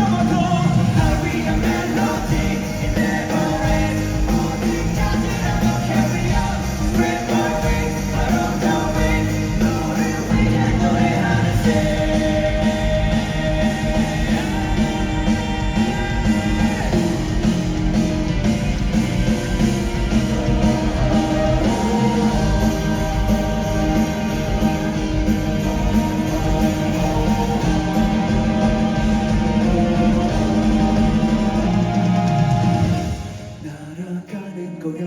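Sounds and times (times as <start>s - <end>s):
drum and bass beat: 0.0s - 33.4s
live rock band playing: 0.0s - 33.6s.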